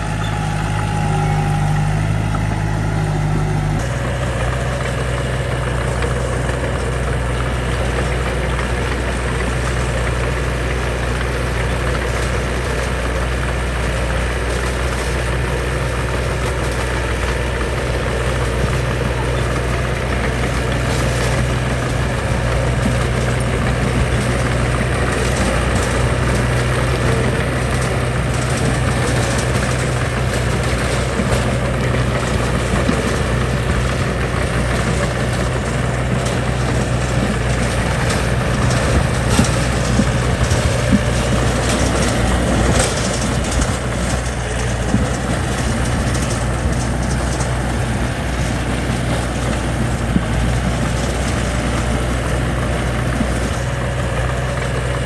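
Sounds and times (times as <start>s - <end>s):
construction machine diesel engine: 0.0s - 55.0s.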